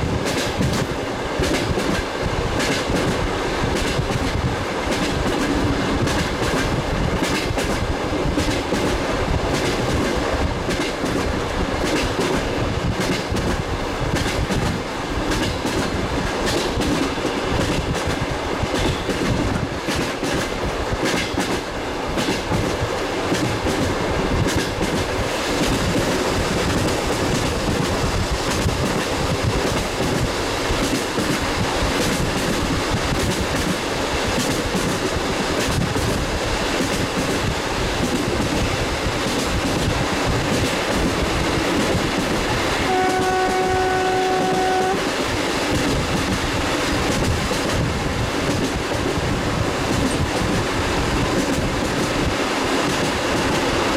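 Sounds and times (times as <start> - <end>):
train wheels clattering over rail joints: 0.1 - 49.2, 49.9 - 53.7.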